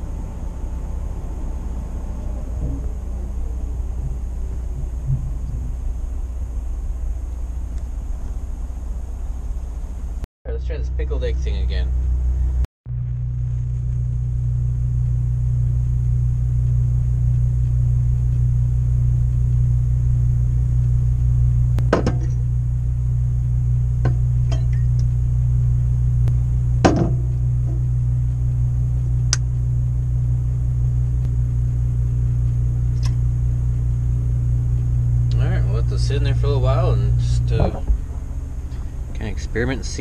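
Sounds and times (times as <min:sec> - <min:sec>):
low machine hum: 0:00.0 - 0:40.0.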